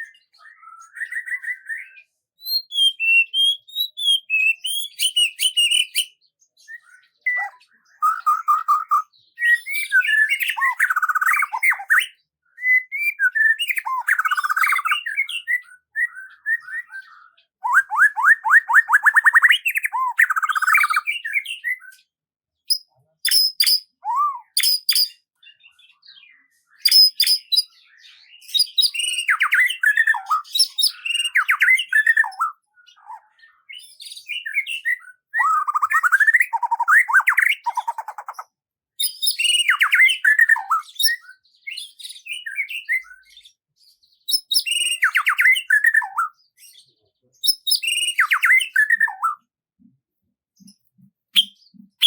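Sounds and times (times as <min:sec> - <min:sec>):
songbird chirping and whistling: 0:00.0 - 0:50.0, 0:50.6 - 0:52.0.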